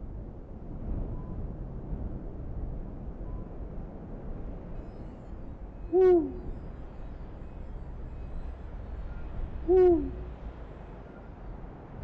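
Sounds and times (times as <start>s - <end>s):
low night ambience: 0.0s - 12.0s.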